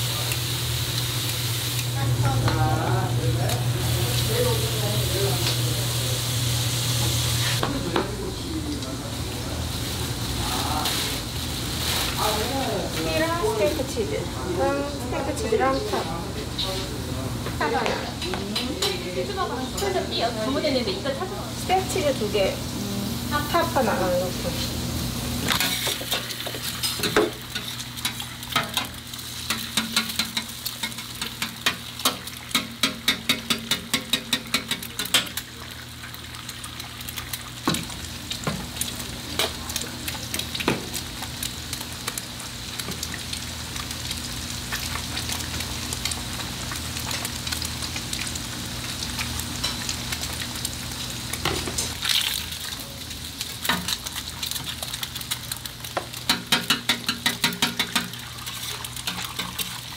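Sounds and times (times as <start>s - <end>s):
food sizzling on griddle: 0.0s - 59.9s.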